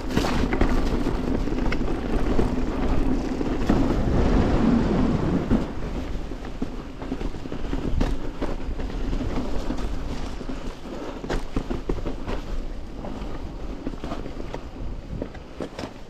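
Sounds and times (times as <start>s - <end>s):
bike knocking over rocks: 0.0s - 16.0s
bike tyres rumbling on dirt: 0.0s - 16.0s
wind on microphone: 0.0s - 16.0s.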